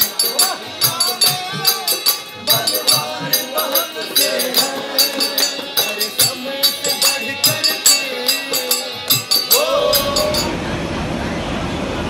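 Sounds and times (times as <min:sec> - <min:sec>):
hand cymbals clashing: 0:00.0 - 0:10.6
hand drum: 0:00.0 - 0:10.6
men singing together: 0:00.0 - 0:10.6
harmonium: 0:00.0 - 0:11.4.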